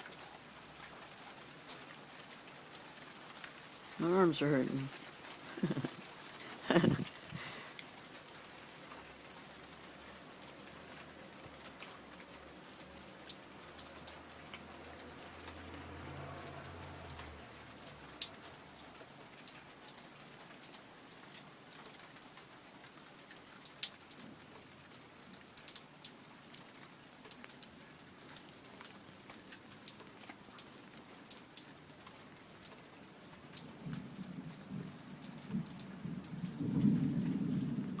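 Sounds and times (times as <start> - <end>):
rain pattering on hard surfaces: 0.0 - 38.0.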